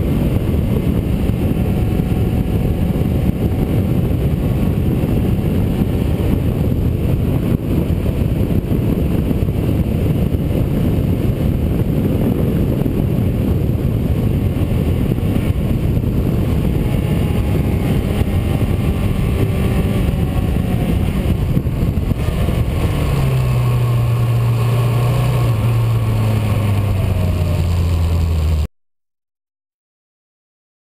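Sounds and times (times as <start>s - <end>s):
engine hum shifting pitch: 0.0s - 28.7s
road and wind noise: 0.0s - 28.7s.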